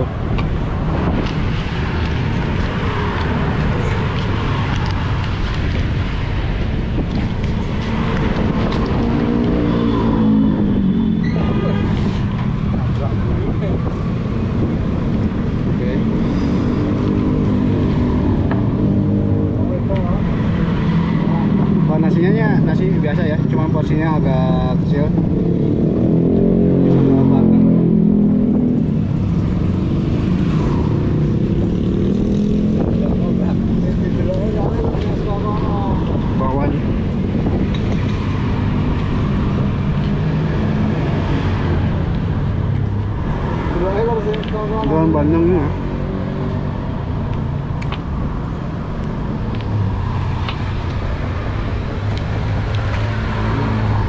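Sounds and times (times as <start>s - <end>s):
steady traffic noise: 0.0s - 54.0s
vehicle engine passing: 0.8s - 54.0s.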